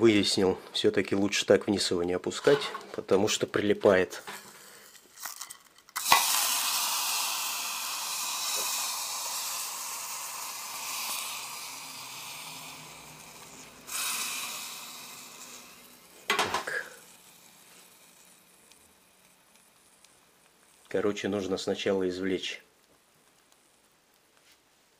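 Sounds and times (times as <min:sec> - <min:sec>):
liquid sizzling in a pot: 0:04.2 - 0:24.9.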